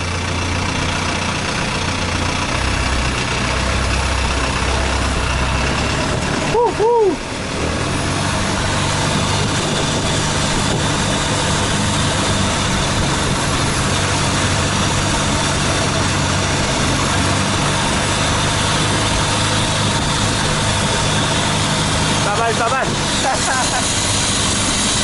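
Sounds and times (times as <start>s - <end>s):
motorboat engine running: 0.0s - 25.0s.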